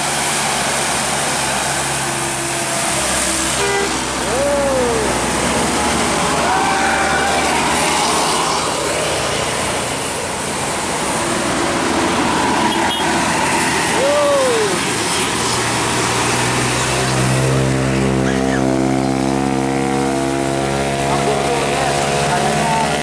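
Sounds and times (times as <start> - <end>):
bus engine drone: 0.0 - 23.0
tyres hissing on wet road: 0.0 - 23.0.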